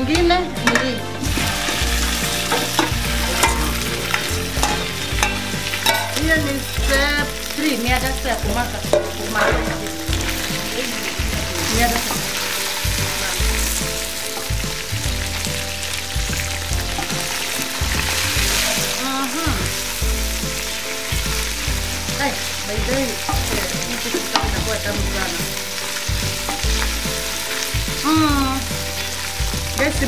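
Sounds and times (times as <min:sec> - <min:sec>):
meat and onions sizzling: 0:00.0 - 0:30.0.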